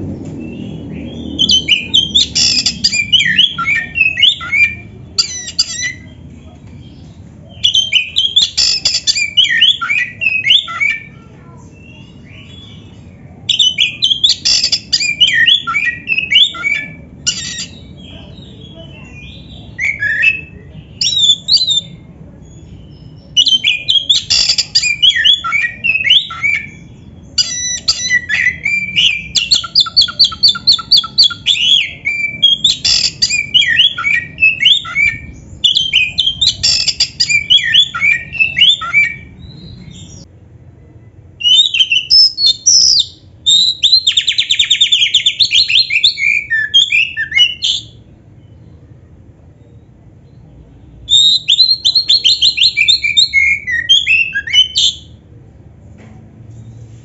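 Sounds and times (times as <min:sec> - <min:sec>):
bird singing whistles and squawks: 0:00.4 - 0:06.2, 0:07.0 - 0:11.2, 0:11.8 - 0:18.1, 0:18.7 - 0:40.2, 0:41.4 - 0:48.7, 0:51.1 - 0:55.1.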